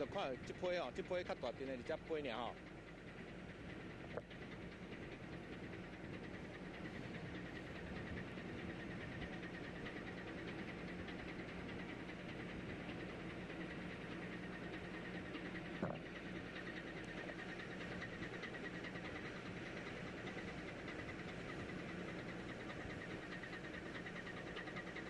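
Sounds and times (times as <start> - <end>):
high pulsing whine: 0.0 - 25.0
ship engine hum: 0.0 - 25.0.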